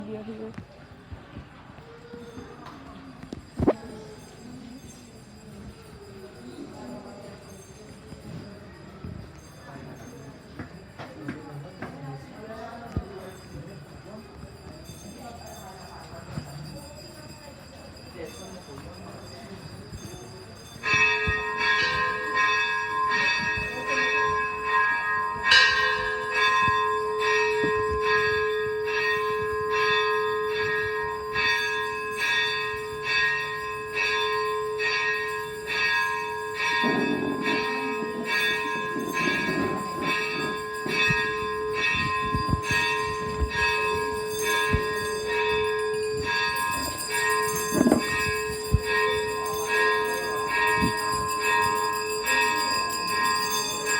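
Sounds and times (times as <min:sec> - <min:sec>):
bells ringing: 0:01.9 - 0:53.9.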